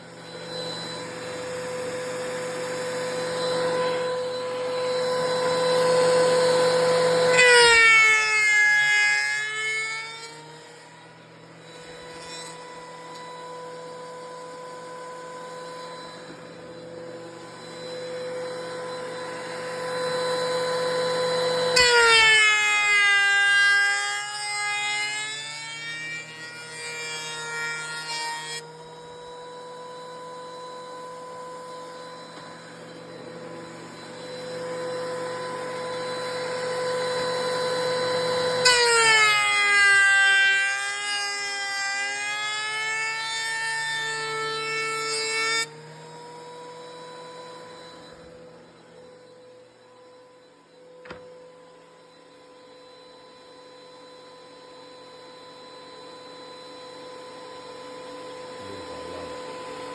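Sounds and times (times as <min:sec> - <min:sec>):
electric planer whining: 0:00.0 - 0:59.9.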